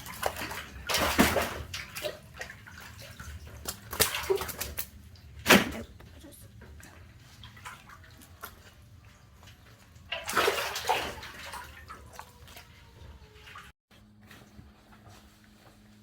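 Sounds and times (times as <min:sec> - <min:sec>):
water splashing and sloshing: 0:00.0 - 0:13.8.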